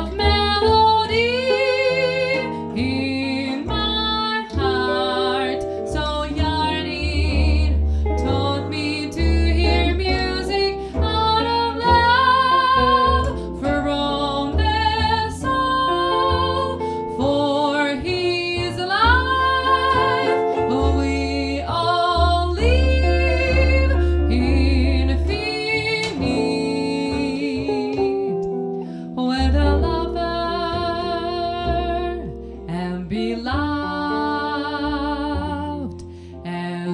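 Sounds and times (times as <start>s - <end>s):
bass notes: 0.0s - 36.9s
plucked guitar chords: 0.0s - 36.9s
woman singing wordless melody: 0.0s - 36.9s.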